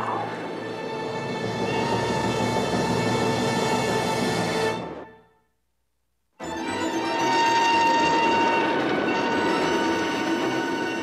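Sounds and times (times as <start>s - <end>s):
train running noise with whine: 0.0s - 5.3s, 6.4s - 11.0s.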